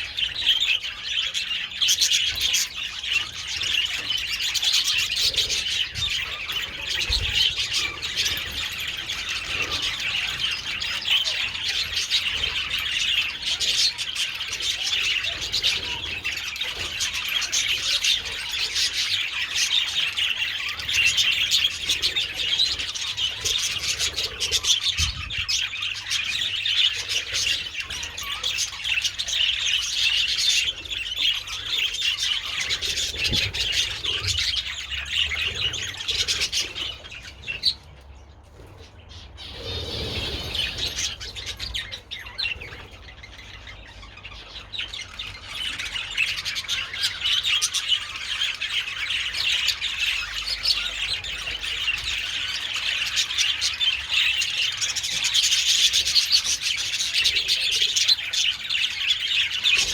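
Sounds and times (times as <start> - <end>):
budgerigars chattering: 0.0 - 38.0, 38.6 - 59.9.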